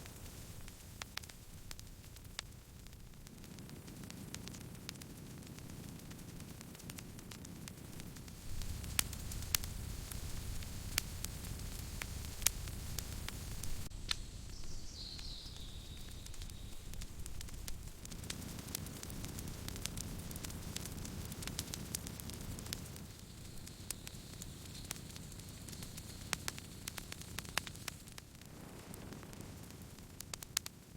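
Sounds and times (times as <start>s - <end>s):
campfire crackling and popping: 0.0s - 30.9s
low rumble of flames: 0.0s - 30.9s.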